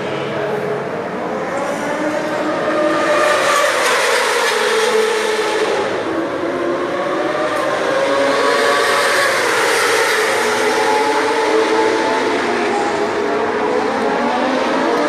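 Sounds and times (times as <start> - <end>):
distant racing motorcycle engines: 0.0 - 15.0.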